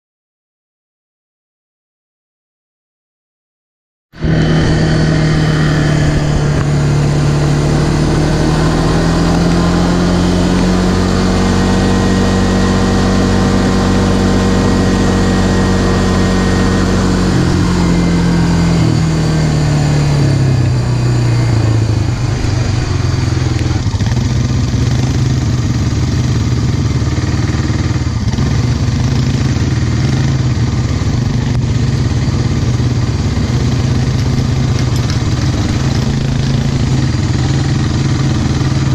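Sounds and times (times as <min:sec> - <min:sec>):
all-terrain vehicle engine running: 0:04.2 - 0:38.9.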